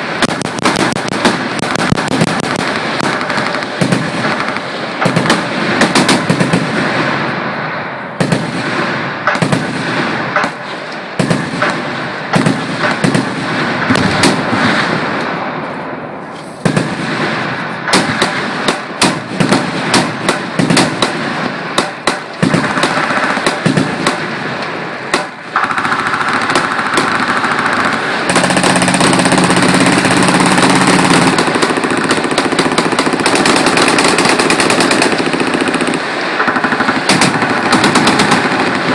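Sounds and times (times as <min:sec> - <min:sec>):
machine guns firing: 0:00.0 - 0:07.5, 0:08.2 - 0:15.4, 0:16.6 - 0:38.9.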